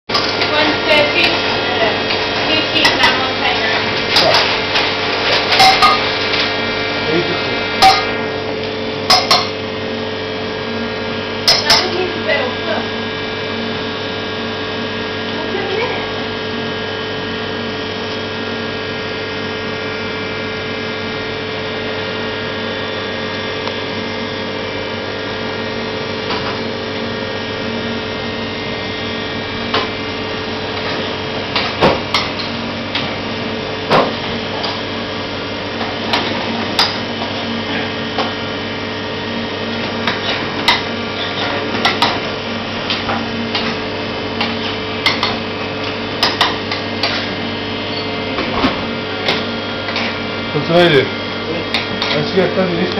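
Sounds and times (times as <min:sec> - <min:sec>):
mechanical hum: 0:00.1 - 0:52.9.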